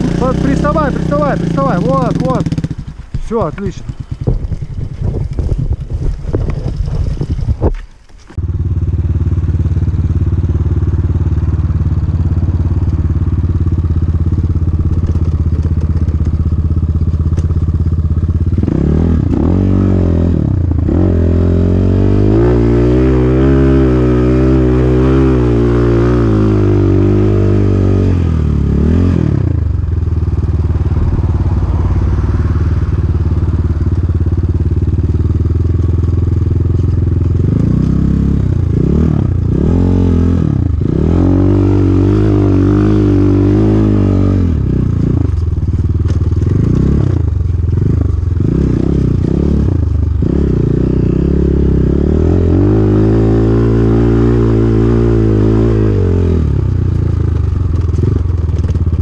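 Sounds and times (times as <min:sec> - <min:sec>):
dirt bike engine revving: 0:00.0 - 0:07.7, 0:08.4 - 0:59.0.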